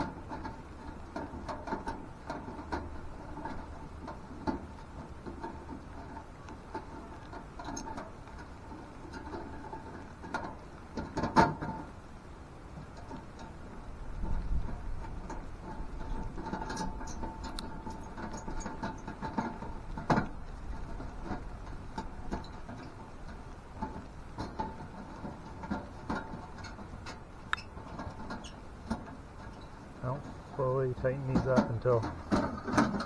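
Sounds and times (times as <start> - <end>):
sheet metal clicks and scrapes: 0.0 - 11.9, 12.8 - 33.0.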